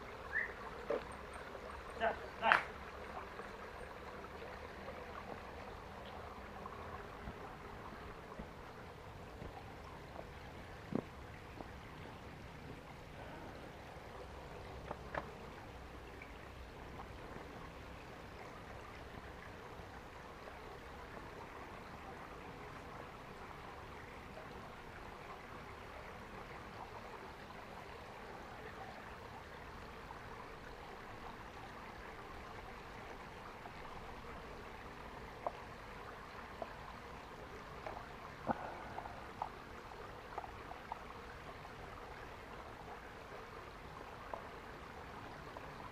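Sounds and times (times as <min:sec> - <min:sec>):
stream trickling over stones: 0:00.0 - 0:45.9.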